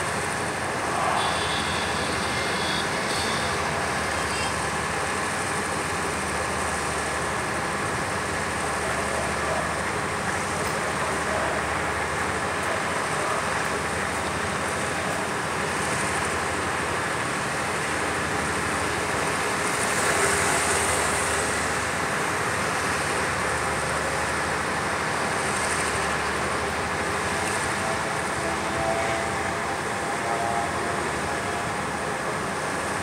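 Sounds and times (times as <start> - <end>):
road traffic hiss: 0.0 - 33.0.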